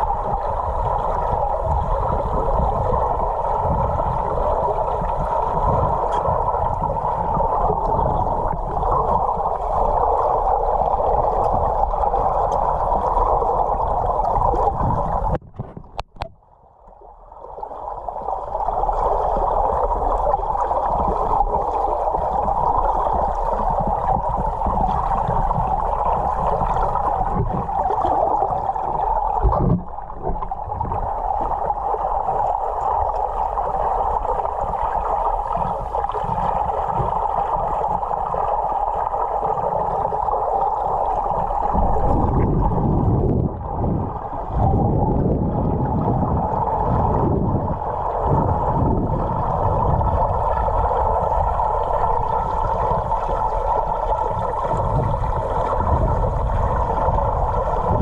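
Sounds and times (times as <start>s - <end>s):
muffled underwater rushing: 0.0s - 58.0s.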